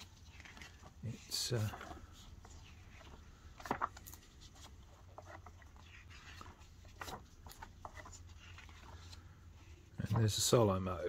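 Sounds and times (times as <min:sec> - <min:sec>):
pages being turned: 0:00.0 - 0:10.8.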